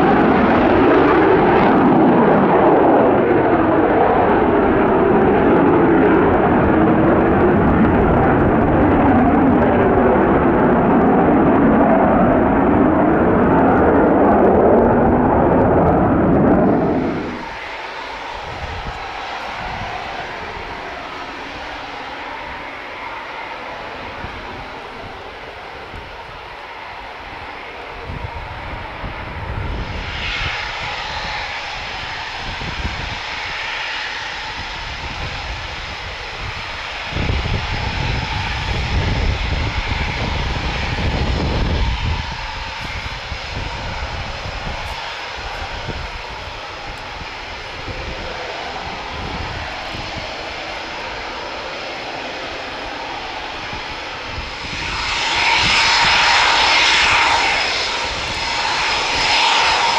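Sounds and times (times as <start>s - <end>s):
deep rumble: 0.0s - 33.8s, 34.4s - 59.9s
jet engines whining: 0.0s - 59.9s.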